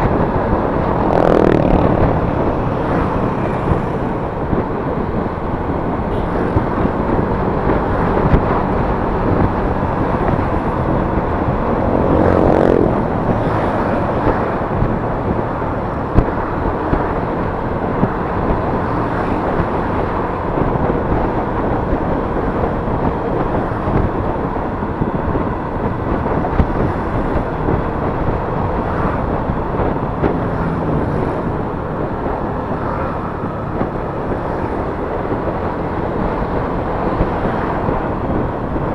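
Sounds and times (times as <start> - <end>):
scooter engine running: 0.0 - 38.9
wind and road noise: 0.0 - 38.9.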